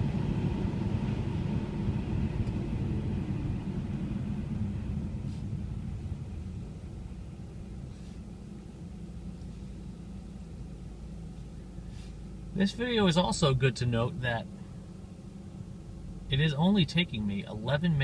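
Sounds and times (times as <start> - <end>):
car interior engine rumble: 0.0 - 18.0.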